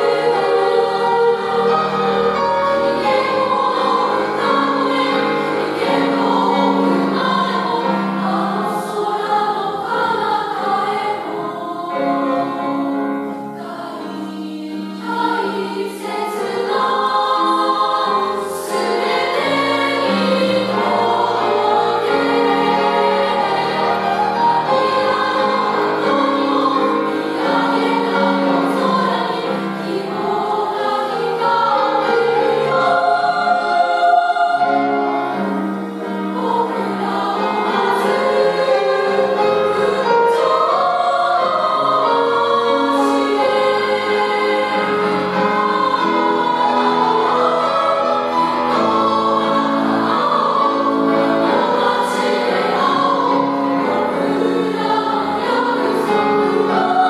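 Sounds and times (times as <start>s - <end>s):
girls' choir singing: 0.0s - 57.0s
grand piano accompaniment: 0.0s - 57.0s.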